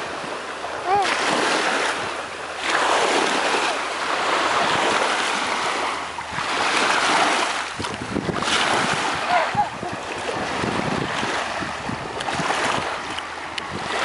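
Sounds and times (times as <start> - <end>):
small waves washing over sand: 0.0 - 14.0
wave splashing: 0.0 - 14.0.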